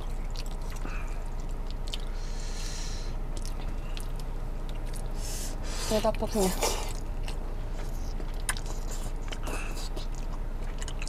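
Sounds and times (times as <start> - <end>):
person chewing soft food: 0.0 - 11.0.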